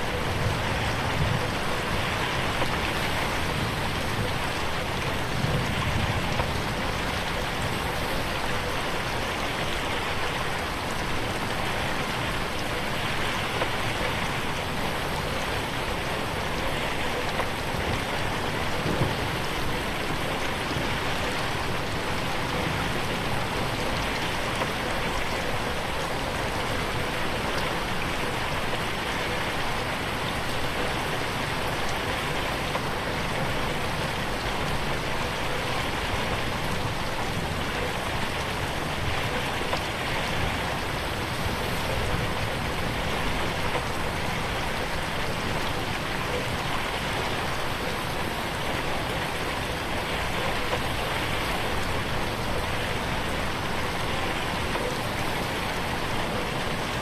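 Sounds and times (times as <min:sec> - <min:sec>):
rain falling on a window: 0:00.0 - 0:57.0.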